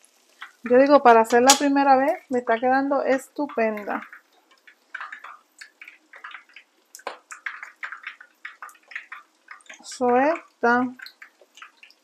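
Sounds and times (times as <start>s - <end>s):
sharp oil crack: 0.0s - 2.4s, 3.4s - 12.0s
hot oil bubbling and popping: 0.0s - 12.0s.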